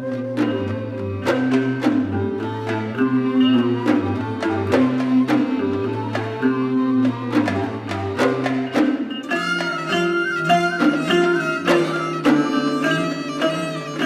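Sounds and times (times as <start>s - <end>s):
hand drum strokes: 0.0s - 14.0s
high-pitched strings: 0.0s - 14.0s.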